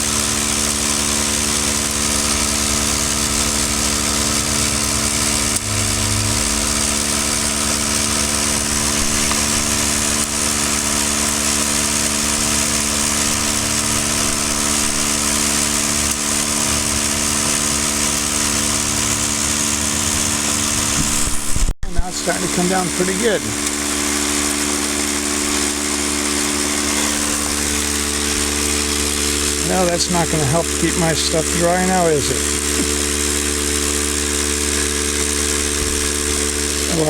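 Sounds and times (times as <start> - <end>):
electric motor humming: 0.0 - 37.0.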